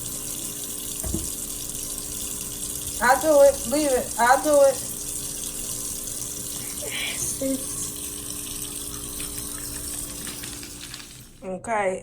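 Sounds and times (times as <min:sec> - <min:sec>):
tap water filling a tank: 0:00.0 - 0:11.4.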